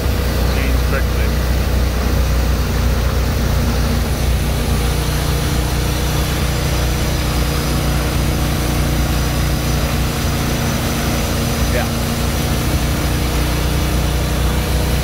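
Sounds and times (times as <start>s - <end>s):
motorboat engine humming: 0.0s - 15.0s
water rushing in boat wake: 0.0s - 15.0s.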